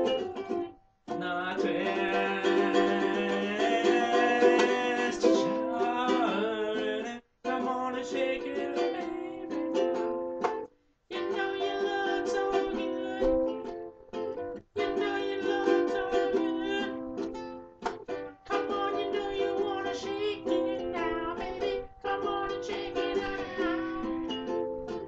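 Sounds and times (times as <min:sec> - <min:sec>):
ukulele strummed chords: 0:00.0 - 0:25.0.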